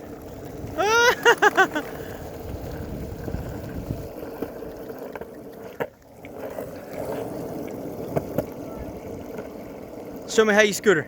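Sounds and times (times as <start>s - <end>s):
scooter wheels rolling on wet pavement: 0.0s - 11.0s.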